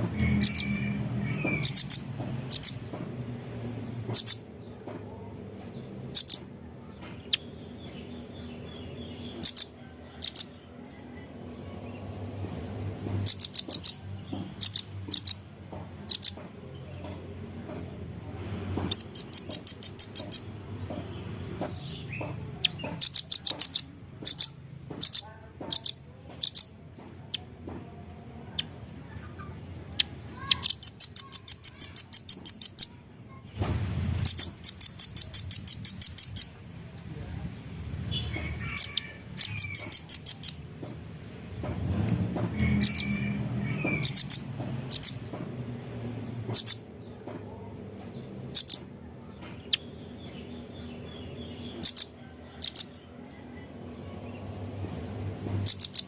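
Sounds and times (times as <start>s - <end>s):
bird chipping and trilling: 0.0s - 17.2s, 18.2s - 27.6s, 28.4s - 33.0s, 33.8s - 40.8s, 42.4s - 56.0s.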